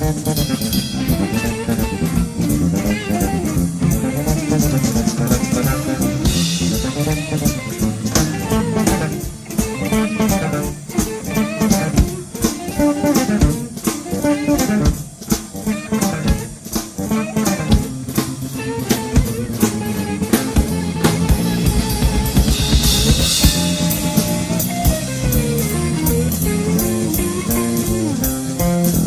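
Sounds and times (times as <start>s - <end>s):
drum kit: 0.0s - 29.0s
electric bass playing fast lines: 0.0s - 29.0s.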